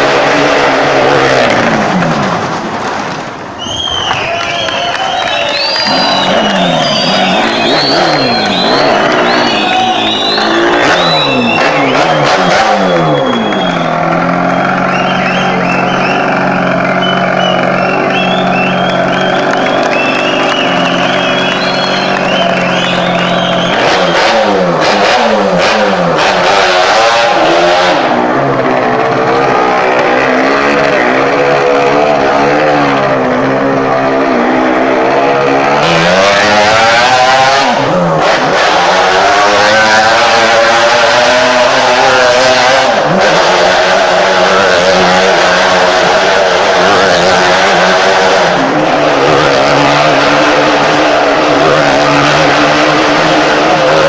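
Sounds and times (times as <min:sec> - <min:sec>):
motorcycle engine revving: 0:05.7 - 0:54.0.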